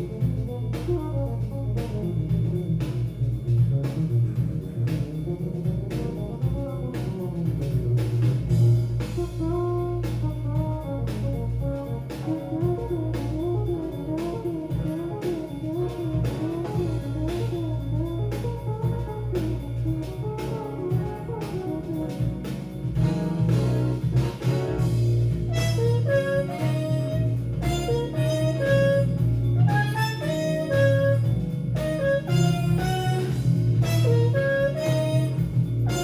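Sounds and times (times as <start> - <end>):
drums playing steady beat: 0.0 - 36.0
electric bass line: 0.0 - 36.0.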